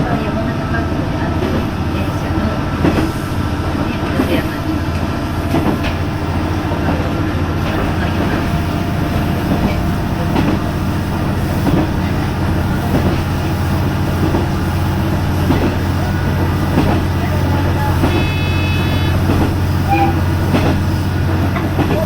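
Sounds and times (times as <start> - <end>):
railcar engine drone: 0.0 - 22.0.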